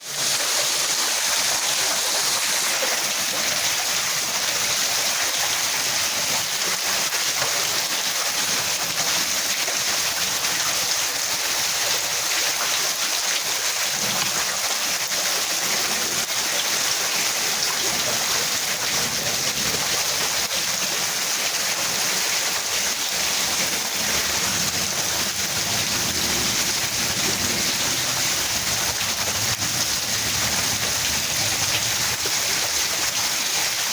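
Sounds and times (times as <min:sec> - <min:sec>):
rushing flood water: 0:00.0 - 0:33.9.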